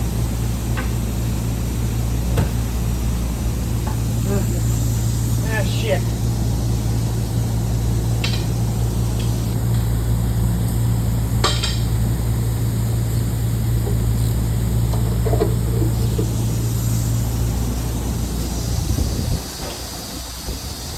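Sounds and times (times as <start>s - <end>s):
electric motor humming: 0.0s - 11.4s, 12.1s - 20.9s.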